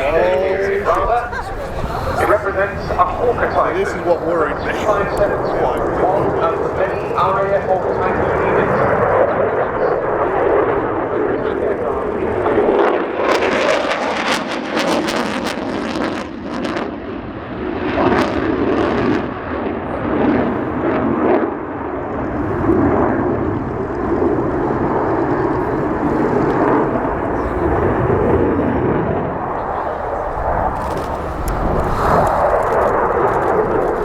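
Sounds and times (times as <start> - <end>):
jet engine crackle: 0.0 - 34.0
jet engines roaring: 0.0 - 34.0.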